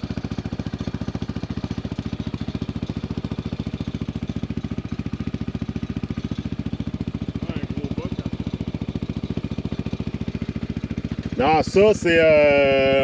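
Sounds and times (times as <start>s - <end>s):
small engine puttering: 0.0s - 13.0s.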